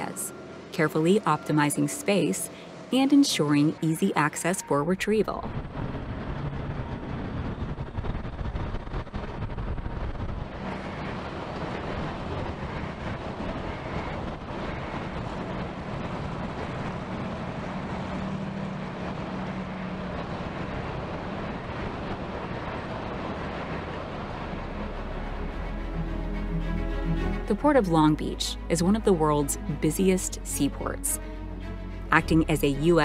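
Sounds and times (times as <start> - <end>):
heavy vehicle traffic rumble: 0.0 - 33.0
truck diesel engine passing: 0.0 - 33.0.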